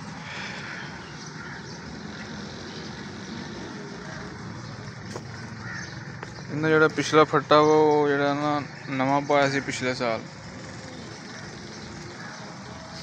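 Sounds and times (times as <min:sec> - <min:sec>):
outdoor hiss and rumble: 0:00.0 - 0:13.0.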